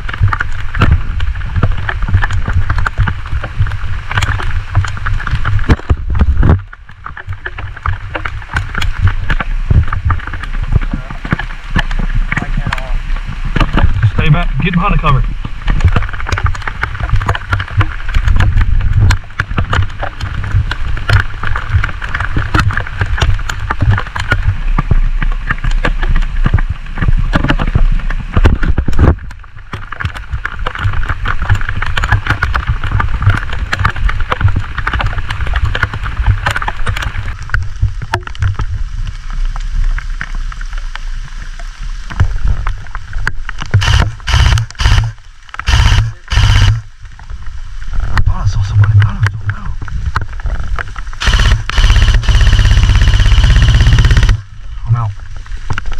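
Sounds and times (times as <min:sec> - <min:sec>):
clicks and crackles: 0:00.0 - 0:55.9
rain hiss: 0:00.0 - 0:55.9.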